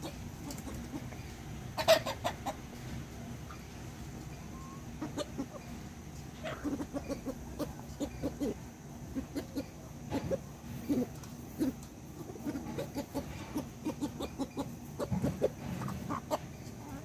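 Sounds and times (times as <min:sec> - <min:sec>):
sharp chicken calls: 0:00.0 - 0:02.7, 0:03.4 - 0:17.0
chickens clucking: 0:00.0 - 0:17.0.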